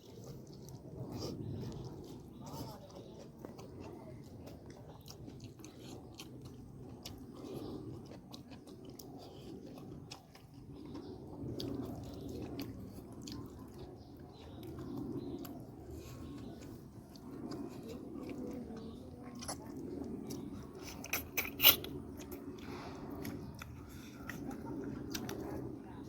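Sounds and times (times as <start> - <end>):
person chewing and crunching food: 0.0 - 26.0.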